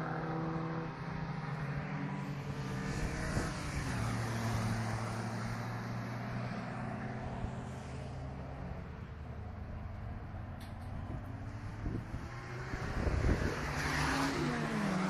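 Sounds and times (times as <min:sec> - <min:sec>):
race car engines droning: 0:00.0 - 0:15.0
race car passing close: 0:00.0 - 0:15.0.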